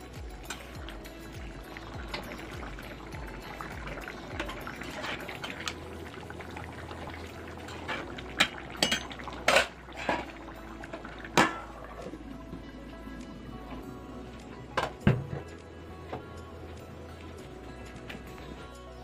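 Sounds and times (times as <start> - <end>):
curry bubbling: 0.0 - 18.6.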